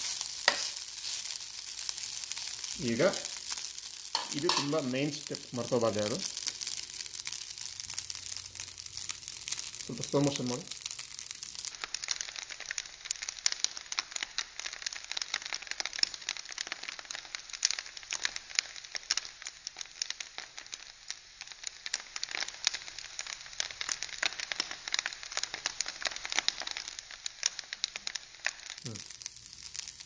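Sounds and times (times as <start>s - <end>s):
rice crackling in a skillet: 0.0s - 30.0s.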